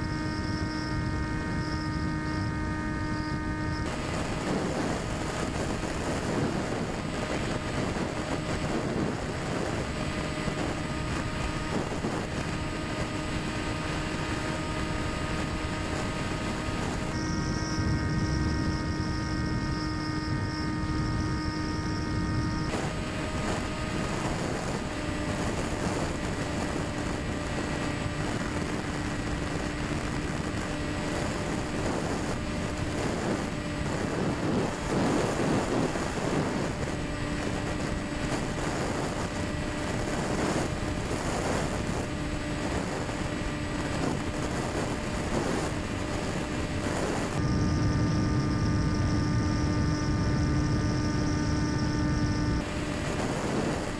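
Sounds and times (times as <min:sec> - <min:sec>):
model plane motor and propeller: 0:00.0 - 0:53.9
wind rushing over microphone: 0:00.0 - 0:53.9.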